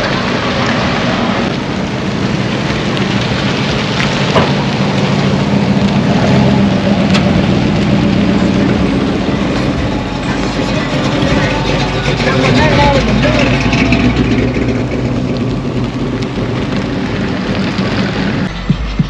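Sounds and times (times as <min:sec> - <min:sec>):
car engine running: 0:00.0 - 0:19.0
noisy rush: 0:00.0 - 0:19.0.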